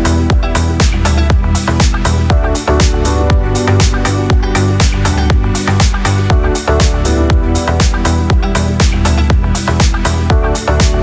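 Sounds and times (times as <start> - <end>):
electronic dance music: 0.0 - 11.0
kick drum beat: 0.0 - 11.0.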